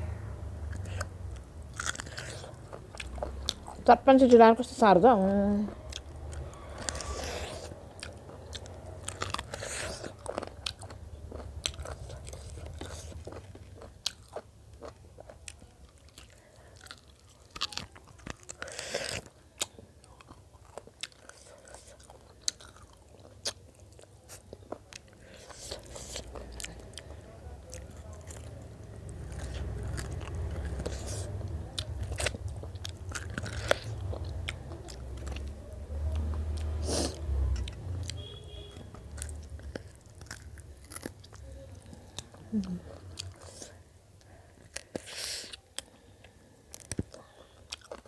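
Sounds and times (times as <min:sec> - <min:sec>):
chewing and crunching food: 0:00.6 - 0:48.0.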